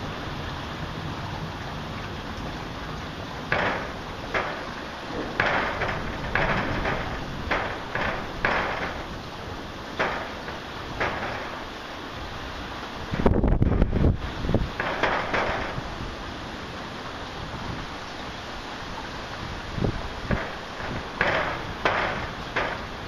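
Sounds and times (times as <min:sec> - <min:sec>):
heavy rain: 0:00.0 - 0:23.0
sharp noise bursts: 0:02.7 - 0:17.3, 0:18.2 - 0:23.0.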